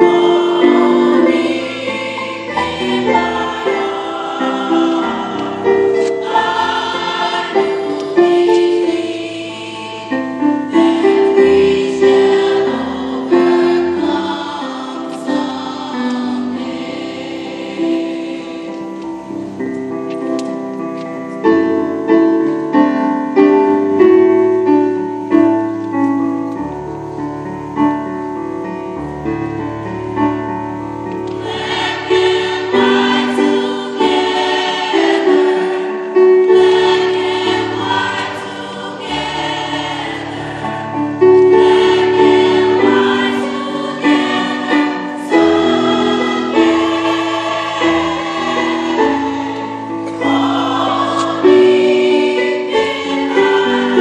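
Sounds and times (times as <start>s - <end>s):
choir singing: 0.0s - 20.4s, 31.0s - 54.0s
keyboard accompaniment: 0.0s - 54.0s.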